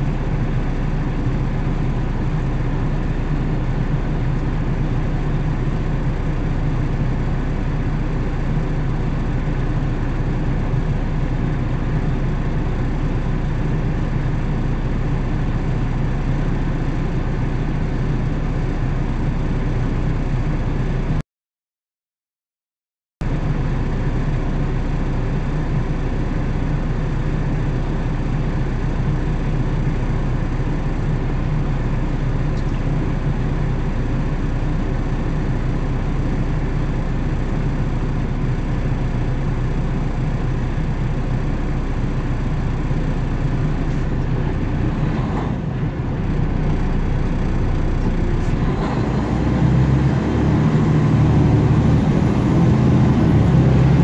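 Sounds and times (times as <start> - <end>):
vehicle engine idling: 0.0 - 21.2, 23.2 - 54.0.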